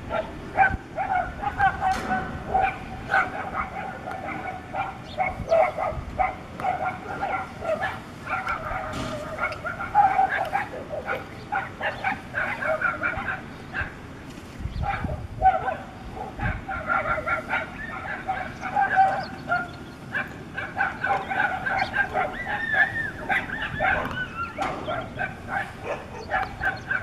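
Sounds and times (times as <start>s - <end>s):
dogs yelping and whining: 0.0s - 14.0s, 14.8s - 27.0s.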